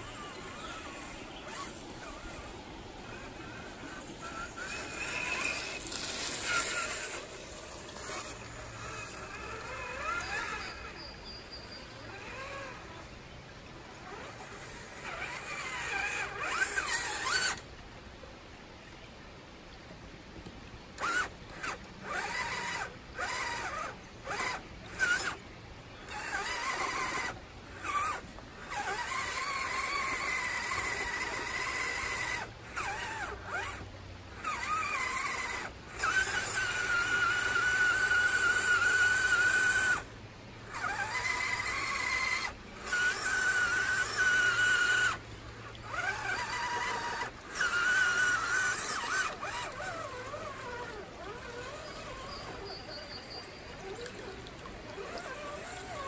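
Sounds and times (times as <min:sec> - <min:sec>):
electric motor and gearbox whining: 0:00.0 - 0:17.7, 0:20.9 - 0:56.0.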